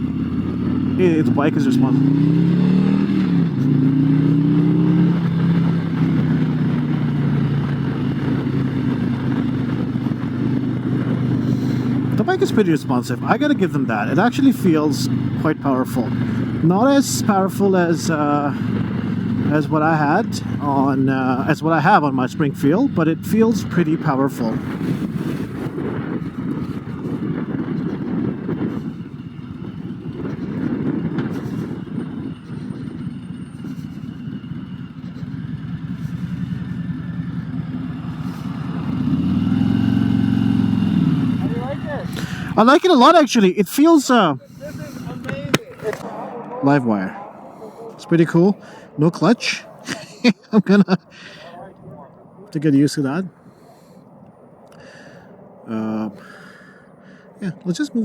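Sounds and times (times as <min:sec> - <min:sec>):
motorcycle engine accelerating: 0:00.0 - 0:43.2, 0:43.8 - 0:58.0
wind and road noise: 0:00.0 - 0:58.0.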